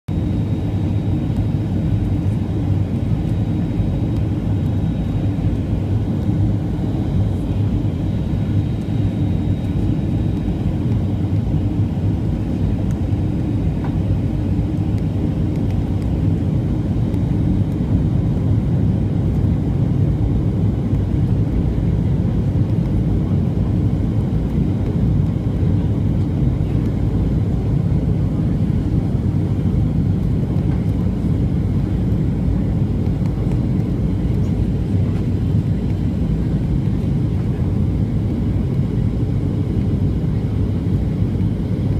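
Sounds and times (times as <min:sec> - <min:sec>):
jet engine roar in cabin: 0:00.1 - 0:41.9.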